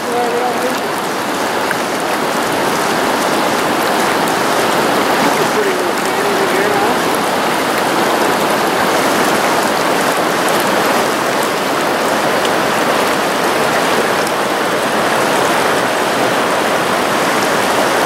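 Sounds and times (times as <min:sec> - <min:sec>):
creek water rushing over stones: 0:00.0 - 0:18.0.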